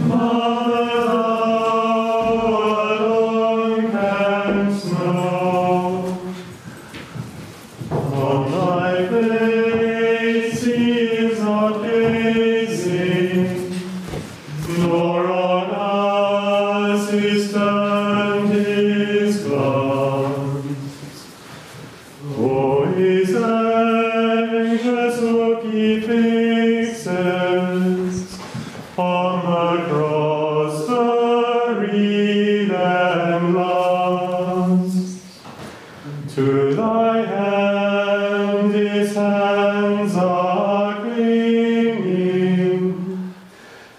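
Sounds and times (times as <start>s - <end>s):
men singing chant in unison: 0.0s - 6.5s, 8.0s - 20.9s, 22.2s - 28.4s, 29.0s - 35.3s, 36.0s - 43.3s.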